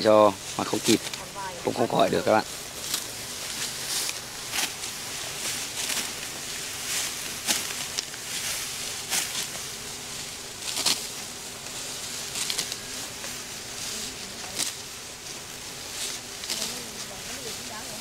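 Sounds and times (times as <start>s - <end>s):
dry rustling swishes: 0.4s - 18.0s.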